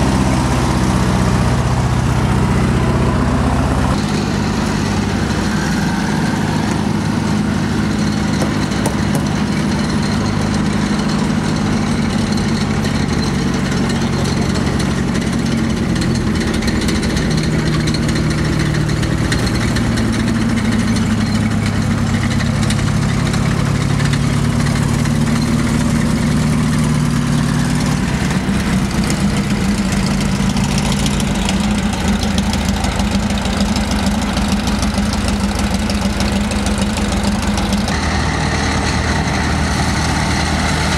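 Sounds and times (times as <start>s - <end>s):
tracked vehicle engine running: 0.0s - 40.9s
steel tracks clattering: 3.8s - 40.9s.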